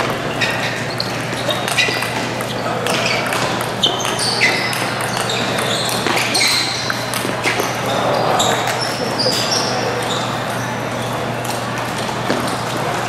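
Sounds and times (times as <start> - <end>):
crowd murmur: 0.0 - 13.0.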